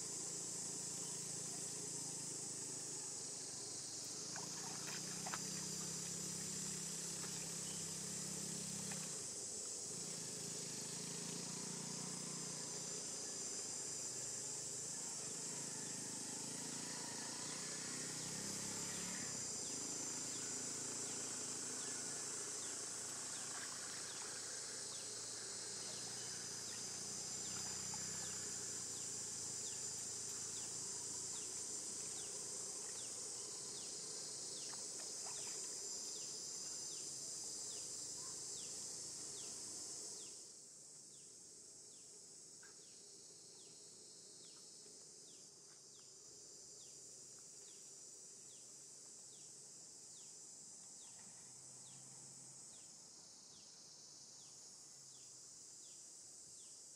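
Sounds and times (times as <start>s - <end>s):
insects buzzing: 0.0s - 56.9s.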